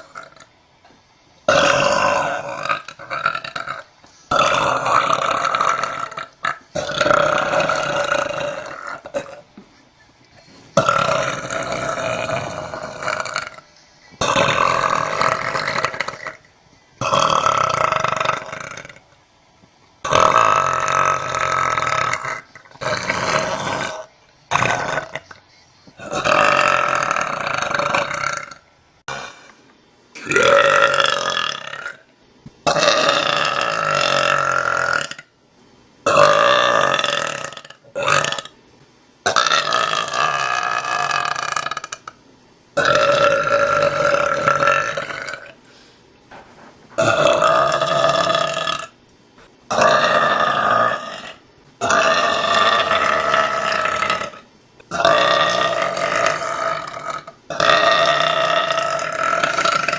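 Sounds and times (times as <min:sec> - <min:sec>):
woman belching: 0:01.5 - 0:09.6, 0:10.8 - 0:13.6, 0:14.2 - 0:19.0, 0:20.0 - 0:25.4, 0:26.0 - 0:29.4, 0:30.2 - 0:32.0, 0:32.7 - 0:35.3, 0:36.1 - 0:38.5, 0:39.3 - 0:42.2, 0:42.8 - 0:45.6, 0:47.0 - 0:49.0, 0:49.7 - 0:59.9.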